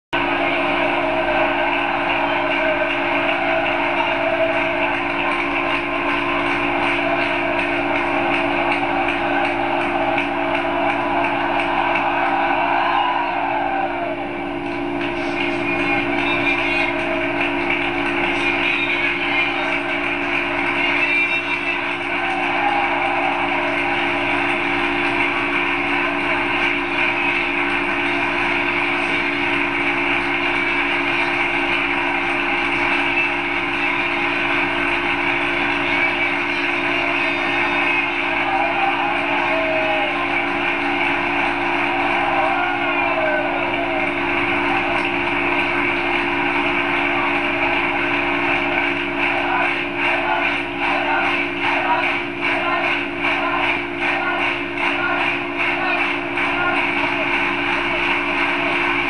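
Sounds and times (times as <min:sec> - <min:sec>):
rhythmic clapping: 0:00.1 - 0:59.0
stadium crowd cheering and applauding: 0:00.1 - 0:59.0.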